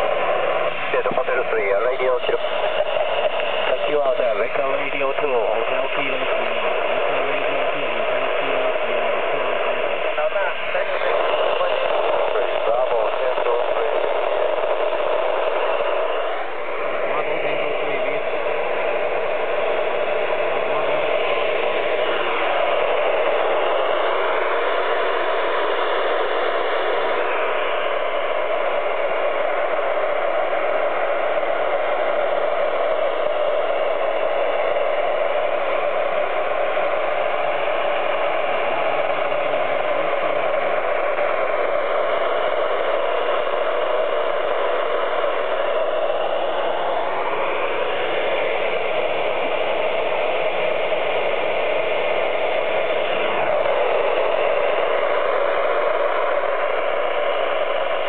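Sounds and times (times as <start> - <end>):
radio receiver static: 0.0 - 58.0.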